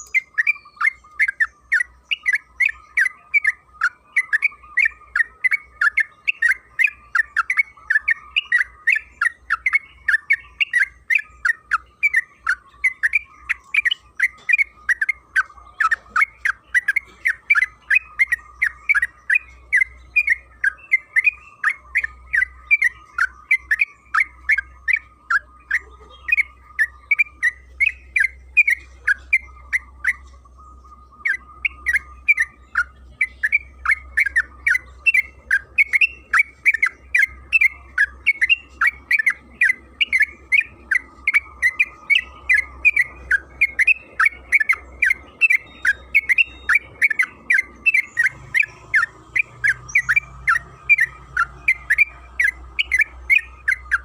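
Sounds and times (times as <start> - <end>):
bird singing chirping notes: 0.0 - 54.0.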